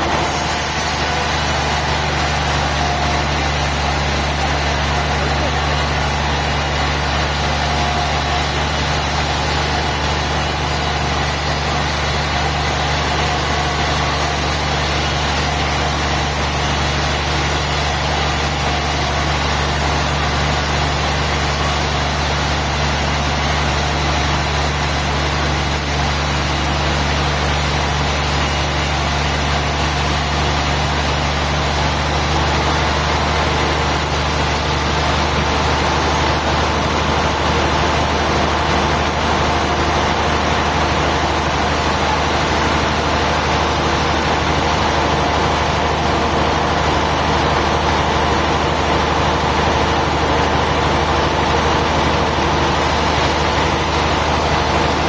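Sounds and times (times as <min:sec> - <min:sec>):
engine humming steadily: 0:00.0 - 0:55.0.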